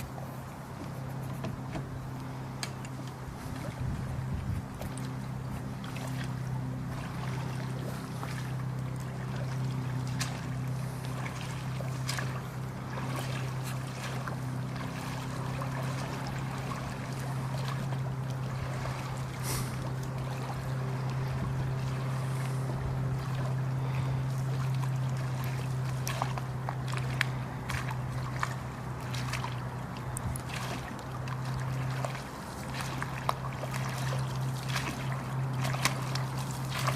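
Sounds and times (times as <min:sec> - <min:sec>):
small outboard motor running: 0:00.0 - 0:36.9.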